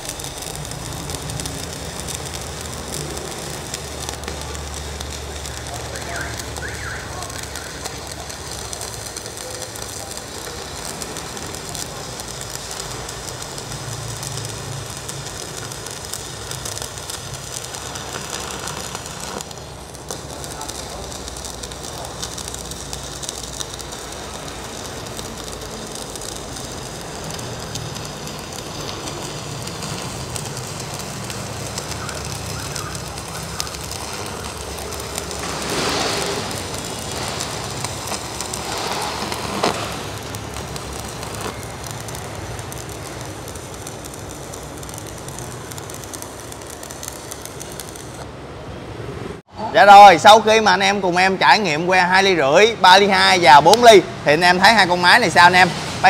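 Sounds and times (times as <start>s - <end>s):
welding arc sizzling: 0.0s - 56.0s.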